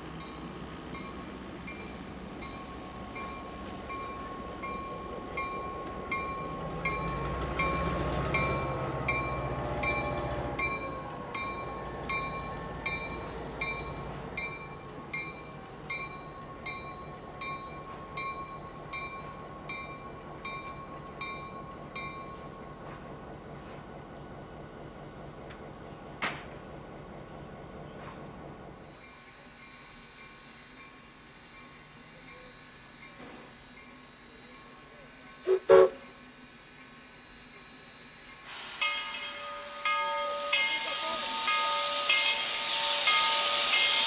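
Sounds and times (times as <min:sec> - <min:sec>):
train rolling past: 0:00.0 - 0:44.0.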